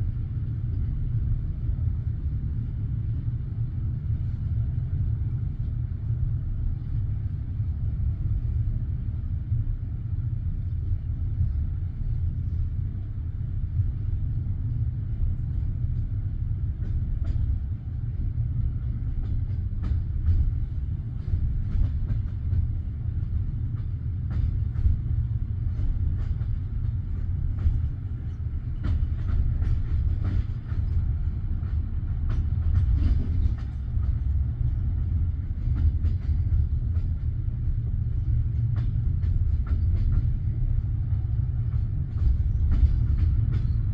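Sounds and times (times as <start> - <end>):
train carriage rumble: 0.0 - 43.9
train clicks and knocks: 0.0 - 43.9.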